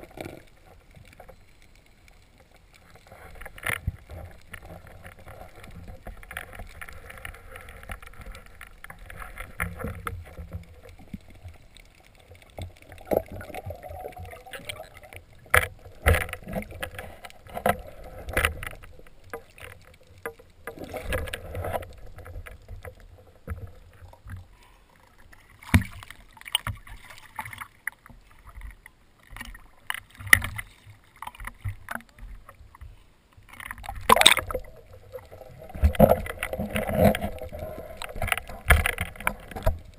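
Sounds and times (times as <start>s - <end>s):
water rushing: 0.0s - 32.4s, 33.5s - 39.9s.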